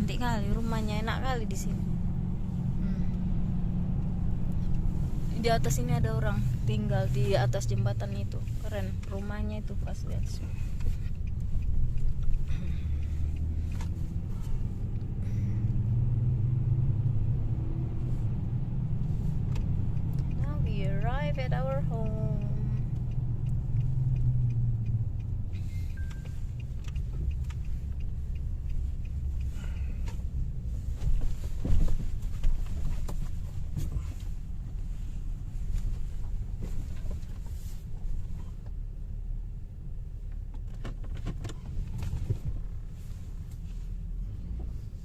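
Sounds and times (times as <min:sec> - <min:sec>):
car engine rumbling: 0:00.0 - 0:45.0.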